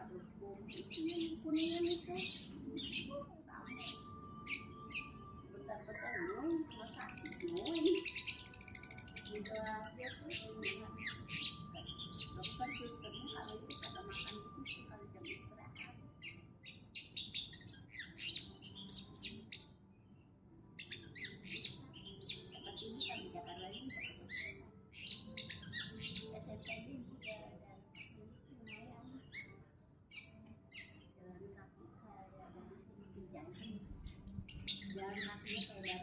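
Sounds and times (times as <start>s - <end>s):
bird singing high chirps: 0.0s - 36.0s.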